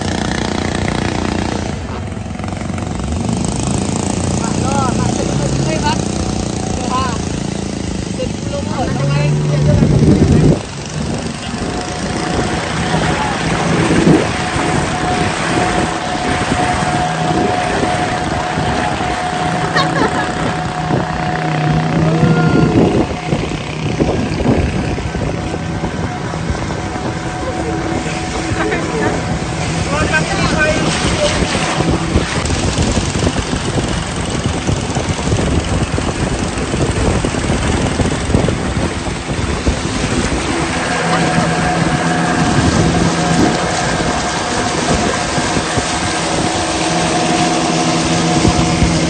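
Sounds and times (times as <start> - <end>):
waterfall roaring: 0.0 - 49.0.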